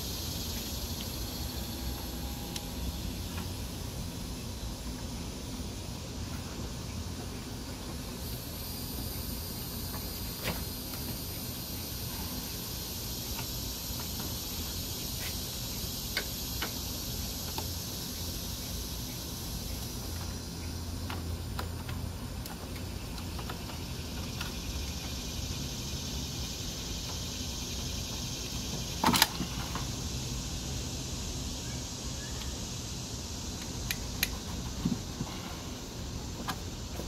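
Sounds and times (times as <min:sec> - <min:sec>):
steady background hiss: 0:00.0 - 0:37.0.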